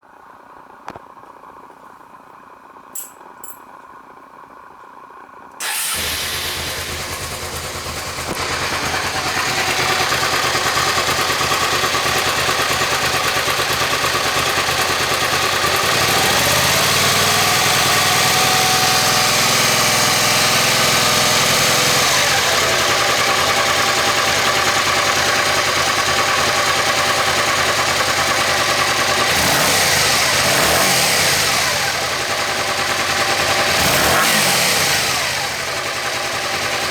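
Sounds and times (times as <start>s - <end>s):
motorcycle engine starting and idling: 5.6s - 36.9s.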